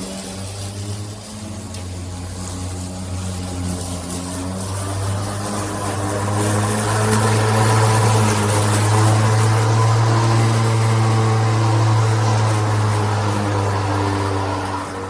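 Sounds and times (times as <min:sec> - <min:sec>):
lawn mower humming: 0:00.0 - 0:15.0
rush of air and cut grass: 0:00.0 - 0:15.0.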